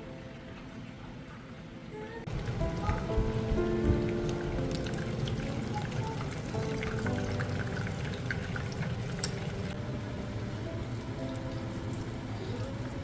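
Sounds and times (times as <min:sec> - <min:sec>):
soft instrumental music: 0:00.0 - 0:13.0.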